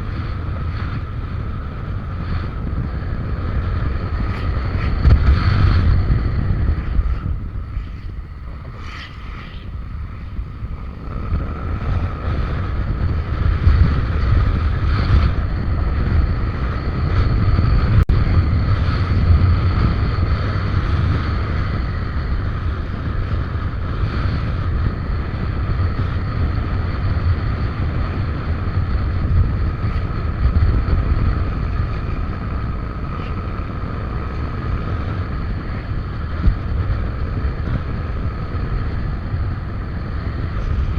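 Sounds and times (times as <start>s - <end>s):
scooter engine drone: 0.0s - 40.9s
wind buffeting microphone: 0.0s - 40.9s.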